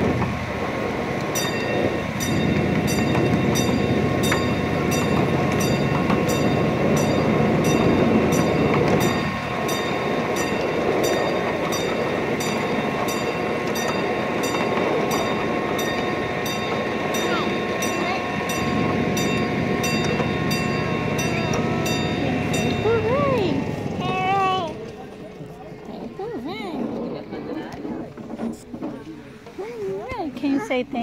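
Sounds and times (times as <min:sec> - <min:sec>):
miniature train rumbling: 0:00.0 - 0:31.0.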